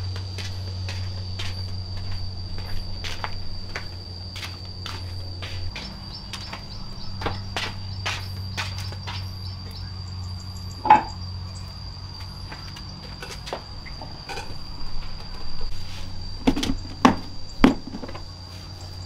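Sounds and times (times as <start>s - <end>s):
high insect trill: 0.0s - 19.0s
low hum: 0.0s - 19.0s.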